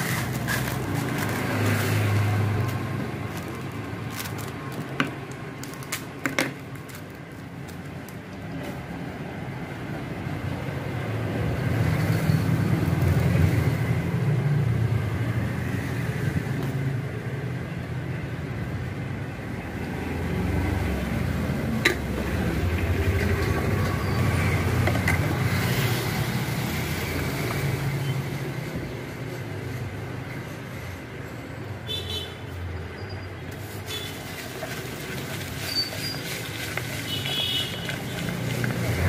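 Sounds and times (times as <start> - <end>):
road traffic rumbling: 0.0 - 39.0.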